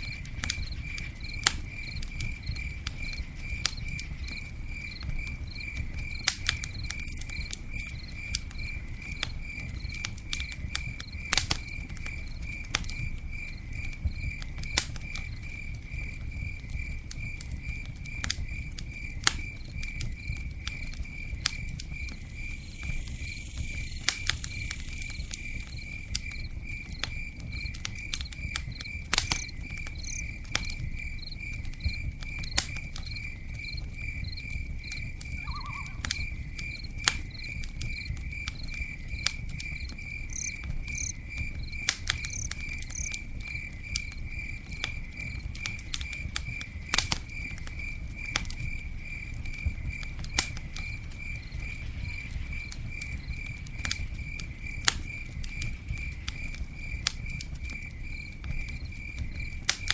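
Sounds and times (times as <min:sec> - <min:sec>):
campfire crackling and popping: 0:00.0 - 0:59.9
cricket chirping: 0:00.0 - 0:59.9.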